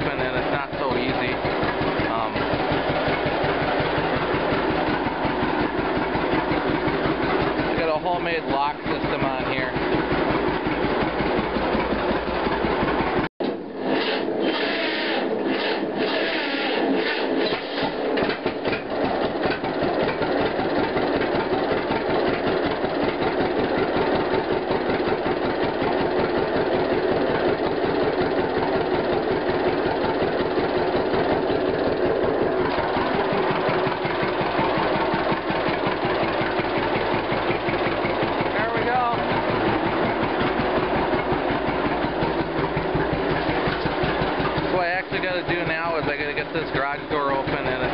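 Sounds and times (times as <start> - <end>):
tractor engine idling: 0.0 - 47.9.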